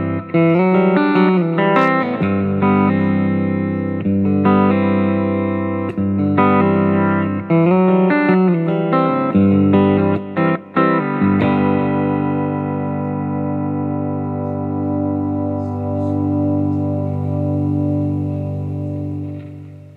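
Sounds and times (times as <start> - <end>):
guitar-led music: 0.0 - 19.9.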